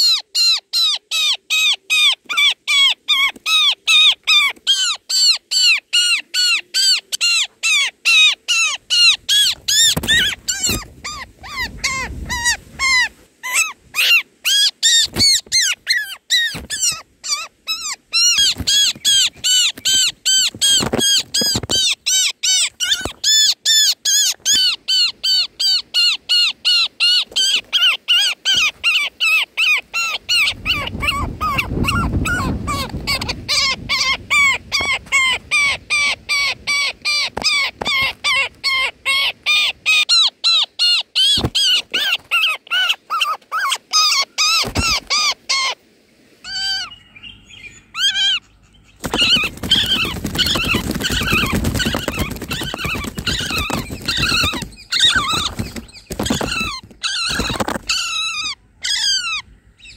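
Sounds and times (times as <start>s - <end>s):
nestling begging calls: 0.0s - 45.8s, 46.4s - 59.9s.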